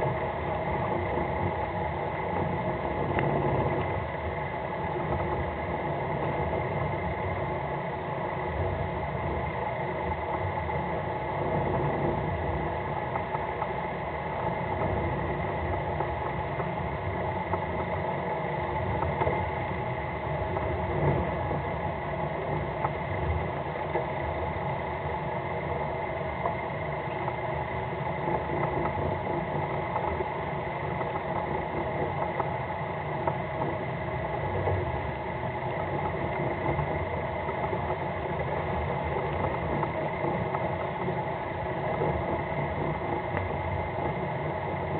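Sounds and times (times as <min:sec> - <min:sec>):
boat engine humming: 0:00.0 - 0:44.9.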